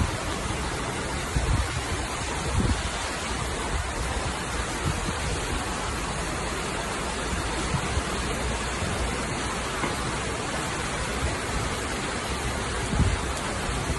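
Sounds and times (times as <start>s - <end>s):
heavy rain and floodwater rushing: 0.0s - 13.9s.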